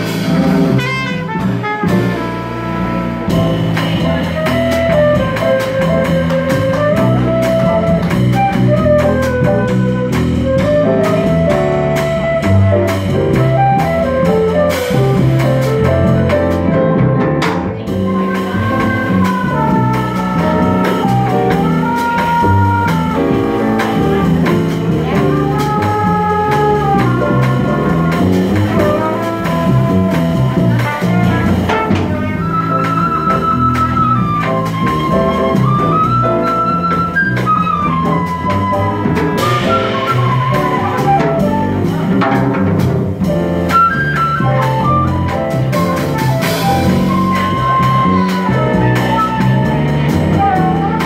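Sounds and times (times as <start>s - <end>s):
drum kit with ride cymbal: 0.0s - 51.0s
flute melody: 0.0s - 51.0s
upright bass walking: 0.0s - 51.0s.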